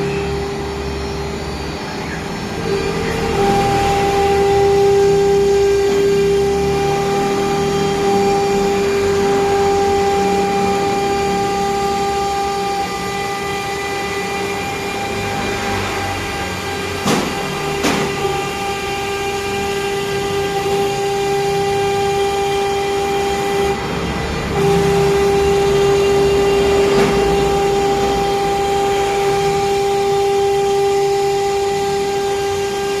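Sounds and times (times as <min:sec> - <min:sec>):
router spindle whine: 0:00.0 - 0:33.0.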